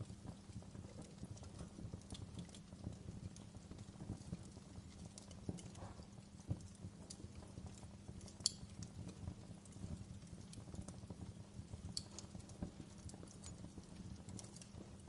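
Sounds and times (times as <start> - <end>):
fireplace fire crackling: 0.0 - 15.0
sharp pops of fire: 0.0 - 15.0.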